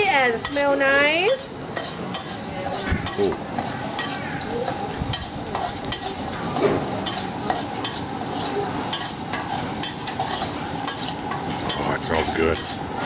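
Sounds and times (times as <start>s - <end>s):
food sizzling in hot oil: 0.0s - 13.0s
metal spatula scraping a wok: 0.2s - 13.0s.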